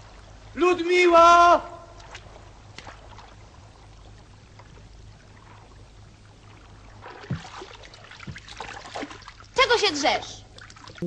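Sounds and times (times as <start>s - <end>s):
film soundtrack hiss and hum: 0.0s - 11.0s
gentle water: 0.0s - 11.0s.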